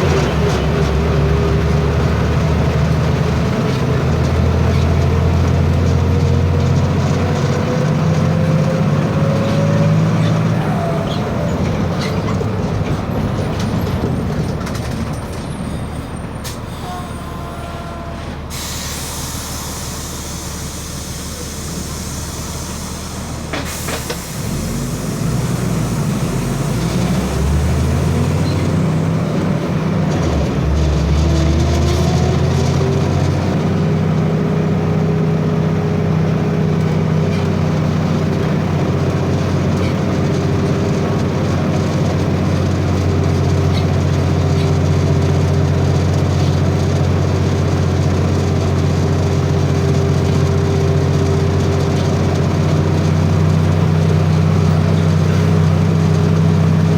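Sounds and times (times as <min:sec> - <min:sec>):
bus diesel engine pulling: 0:00.0 - 0:56.9.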